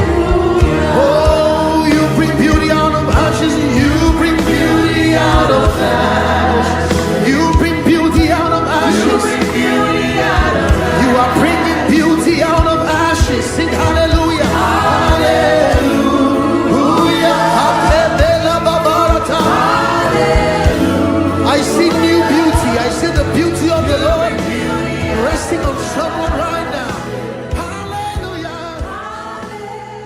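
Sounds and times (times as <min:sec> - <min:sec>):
band accompaniment: 0:00.0 - 0:30.0
steady drum beat: 0:00.0 - 0:30.0
voices singing worship song: 0:00.0 - 0:30.0.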